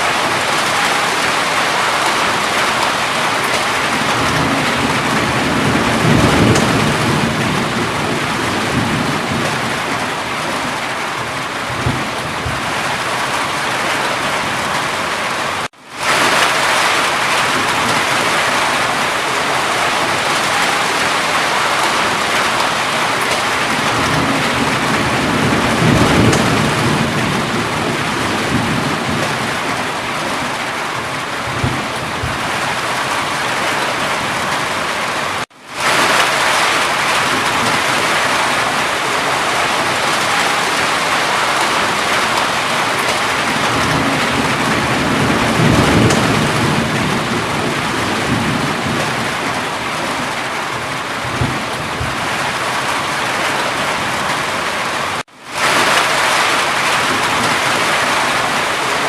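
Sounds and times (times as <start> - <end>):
heavy rain falling: 0.0 - 59.0
thunder rolling: 0.0 - 59.0.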